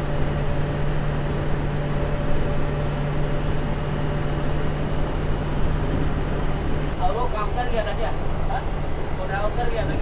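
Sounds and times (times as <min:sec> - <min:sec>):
bus engine hum: 0:00.0 - 0:10.0
road noise: 0:00.0 - 0:10.0.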